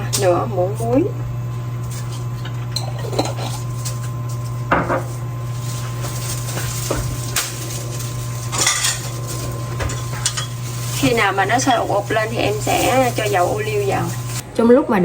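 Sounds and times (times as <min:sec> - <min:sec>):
steady low hum: 0:00.0 - 0:15.0
utensils and dishes clinking: 0:01.7 - 0:14.4.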